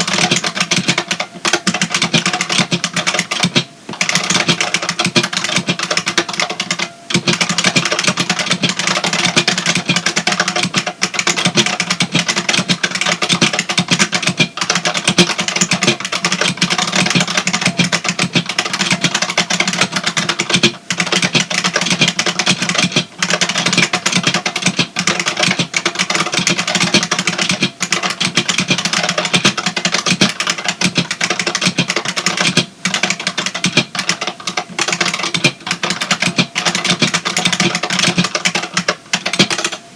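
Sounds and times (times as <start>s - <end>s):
fast typing on clacky keyboard: 0.0s - 39.9s.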